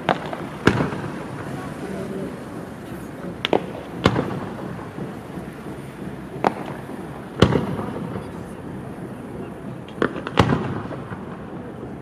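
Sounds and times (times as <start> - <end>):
fireworks bursting bangs: 0.0 - 12.0.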